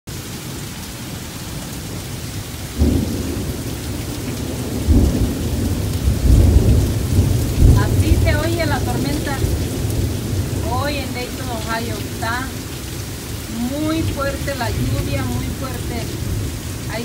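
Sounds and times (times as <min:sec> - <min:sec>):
heavy rain: 0:00.1 - 0:17.0
thunder rumbling: 0:02.7 - 0:17.0.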